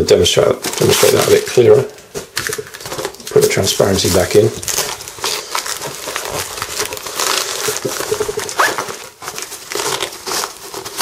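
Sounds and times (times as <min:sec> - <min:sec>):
fabric and plastic crinkling: 0:00.3 - 0:11.0.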